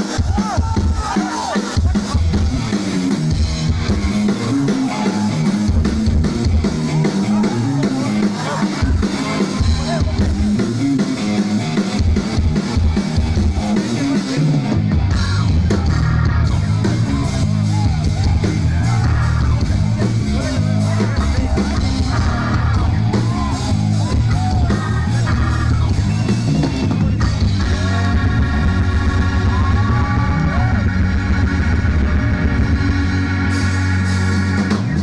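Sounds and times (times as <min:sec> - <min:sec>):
heavy bass: 0:00.0 - 0:35.0
live rock band through pa: 0:00.0 - 0:35.0.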